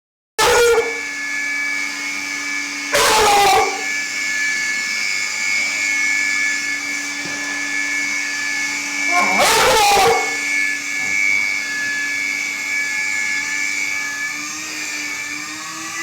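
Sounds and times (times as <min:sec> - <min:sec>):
vacuum cleaner motor whine: 0:00.4 - 0:16.0.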